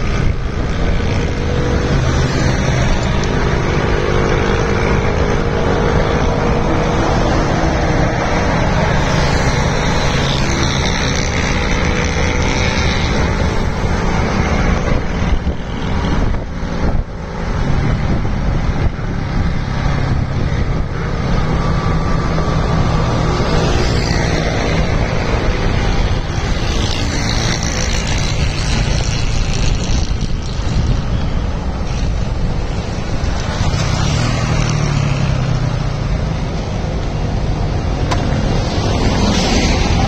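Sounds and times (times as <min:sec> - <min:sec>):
road and air noise: 0:00.0 - 0:40.0.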